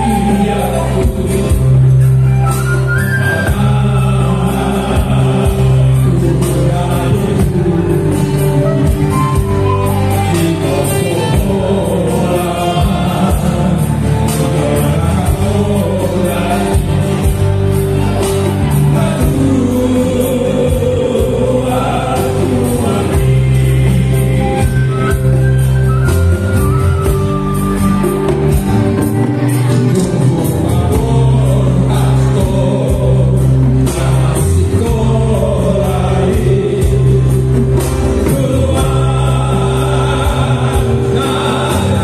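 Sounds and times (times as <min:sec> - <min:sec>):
live band with guitar: 0:00.0 - 0:42.0
male vocal group singing: 0:00.0 - 0:42.0.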